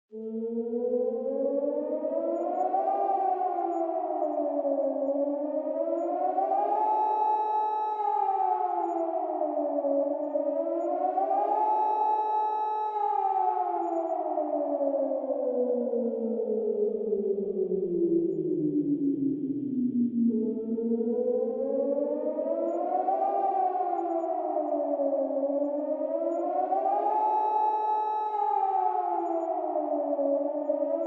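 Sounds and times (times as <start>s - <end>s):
warning siren wailing: 0.1s - 31.0s.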